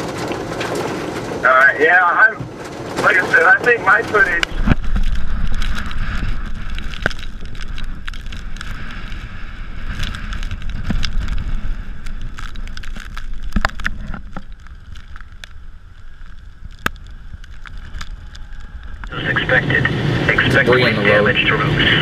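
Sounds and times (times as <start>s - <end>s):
wind buffeting microphone: 2.4s - 22.0s.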